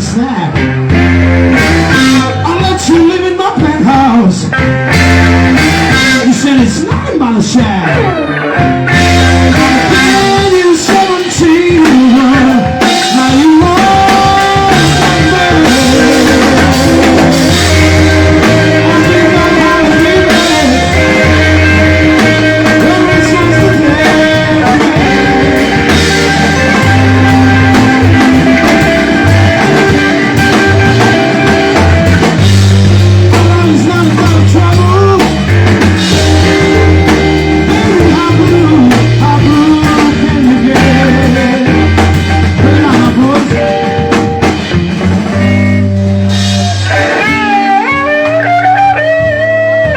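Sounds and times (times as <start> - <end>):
drum kit: 0.0 - 49.9
electric bass: 0.0 - 49.9
electric guitar soloing: 0.0 - 49.9.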